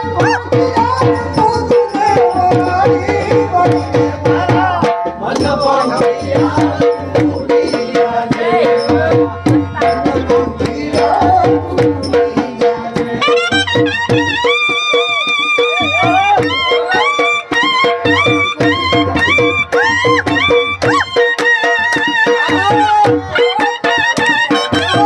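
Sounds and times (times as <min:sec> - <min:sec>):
drum playing fast beat: 0:00.0 - 0:25.0.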